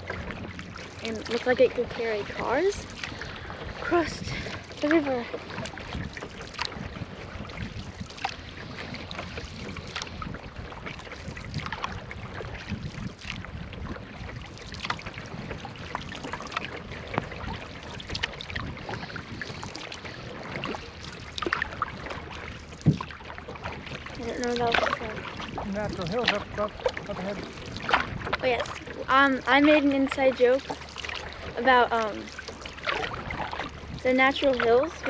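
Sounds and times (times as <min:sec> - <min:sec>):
paddle strokes in water: 0:00.0 - 0:35.0
wind rumble on microphone: 0:00.0 - 0:35.0.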